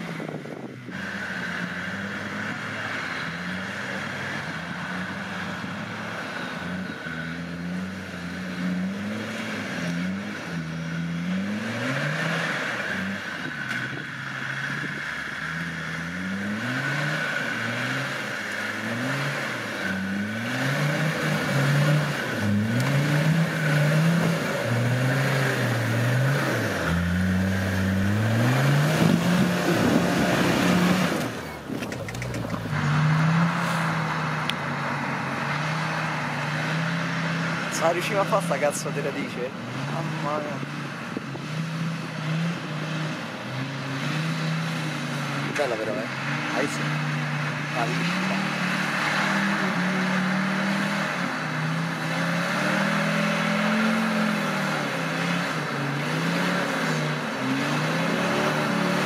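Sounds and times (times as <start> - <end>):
off-road engine revving: 0.0 - 59.0.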